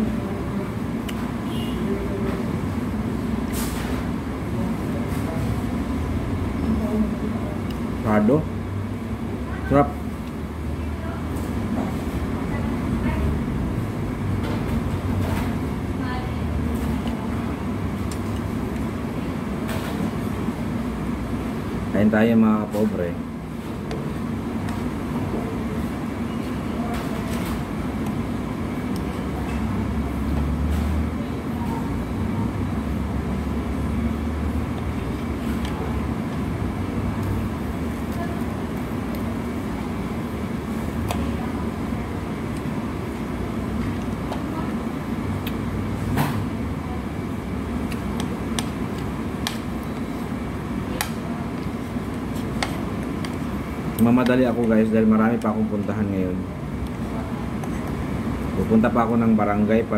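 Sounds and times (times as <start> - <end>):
restaurant background rumble: 0.0 - 59.9.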